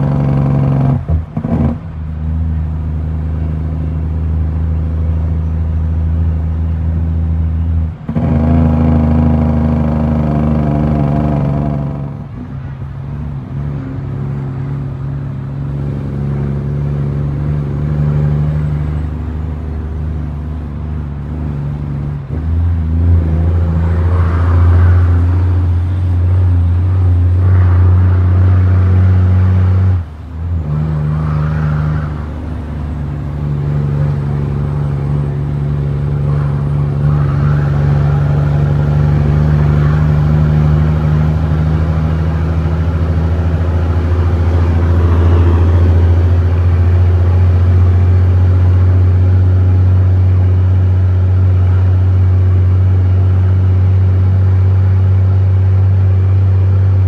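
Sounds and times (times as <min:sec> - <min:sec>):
diesel truck engine shifting gears: 0:00.0 - 0:57.0.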